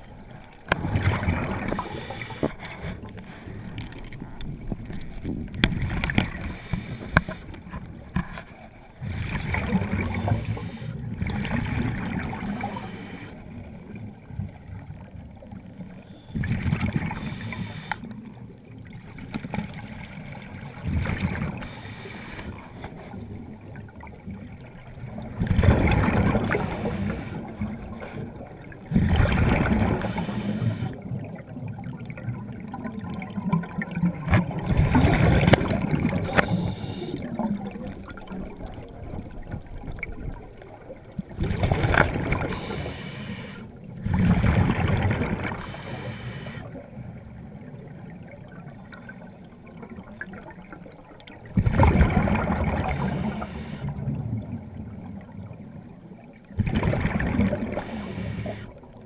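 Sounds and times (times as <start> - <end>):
steady watery background: 0.0 - 59.0
water bubbling and gurgling: 0.0 - 59.0.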